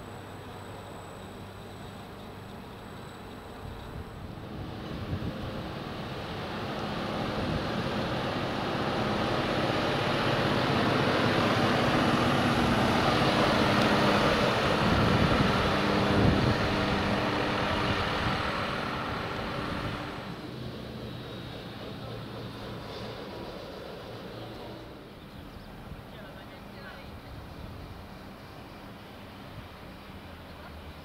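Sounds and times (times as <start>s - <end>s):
bus engine and tyre noise: 0.0s - 31.0s.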